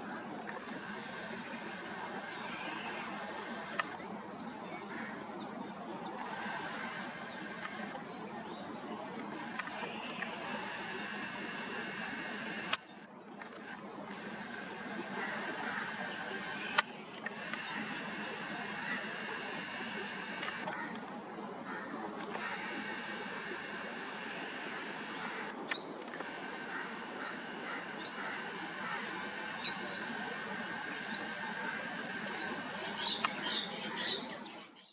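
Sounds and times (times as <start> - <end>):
faint drone: 0.0 - 34.9
outdoor background hiss: 0.0 - 34.9
small birds chirping: 0.0 - 34.9
sharp clicks: 0.4 - 4.1, 6.0 - 8.1, 9.1 - 21.0, 22.2 - 33.7.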